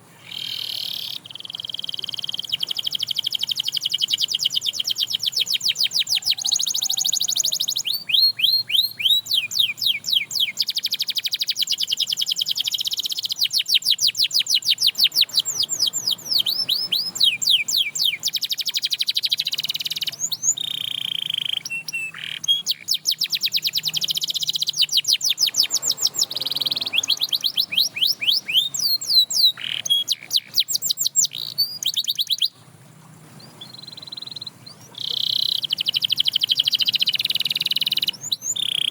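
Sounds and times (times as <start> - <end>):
canary singing rapid trills: 0.0 - 38.9.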